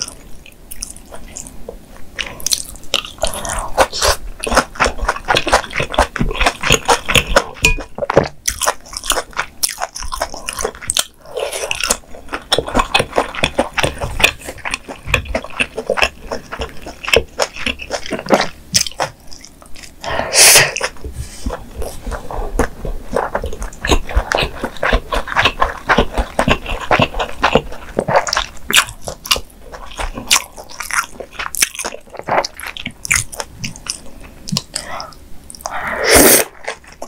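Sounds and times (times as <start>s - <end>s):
close chewing with wet clicks: 0.0s - 20.1s, 20.8s - 35.8s, 36.5s - 37.0s.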